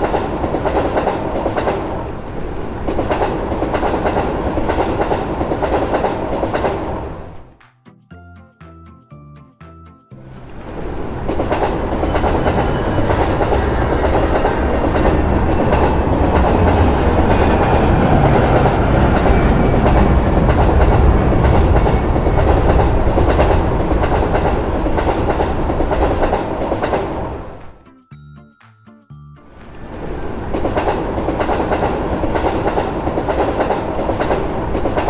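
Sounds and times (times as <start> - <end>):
clickety-clack of rail joints: 0.0 - 7.3, 10.4 - 27.8, 29.7 - 35.0
train wheels on rails: 0.0 - 7.5, 10.3 - 27.8, 29.6 - 35.0.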